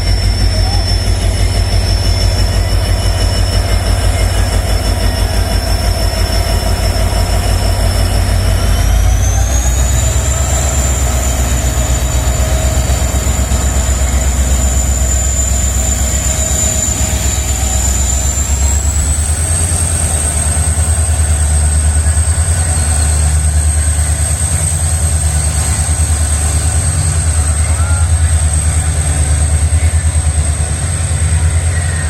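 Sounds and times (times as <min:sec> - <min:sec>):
diesel locomotive engine humming: 0:00.0 - 0:32.0
high whine: 0:00.0 - 0:32.0.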